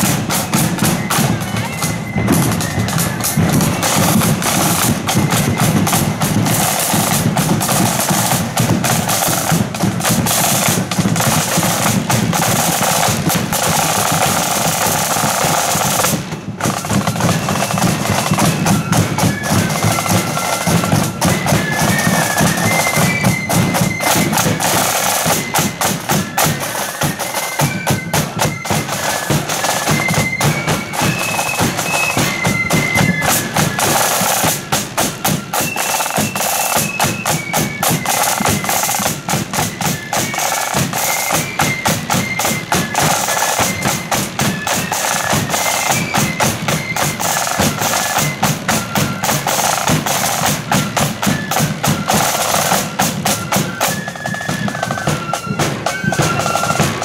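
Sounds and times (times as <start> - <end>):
flutes playing melody: 0.0 - 57.0
side drum strokes: 0.0 - 57.0.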